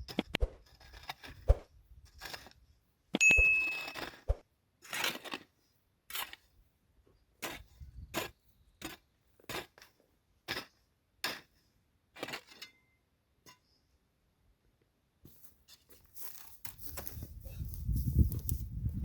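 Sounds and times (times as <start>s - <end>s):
hand tool scraping dirt: 0.0s - 13.8s, 15.2s - 18.9s.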